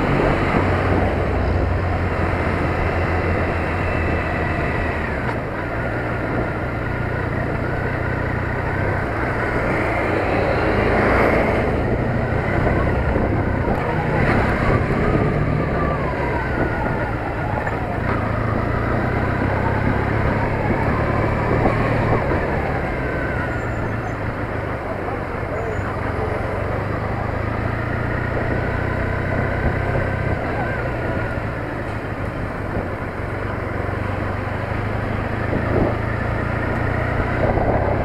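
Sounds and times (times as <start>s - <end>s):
road and wind noise: 0.0s - 38.0s.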